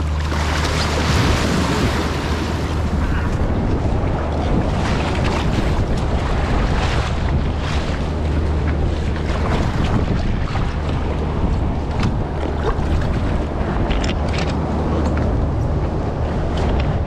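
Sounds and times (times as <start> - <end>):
paddle strokes splashing: 0.0 - 15.4
sea water sloshing: 0.0 - 17.0
wind rumbling on microphone: 0.0 - 17.0.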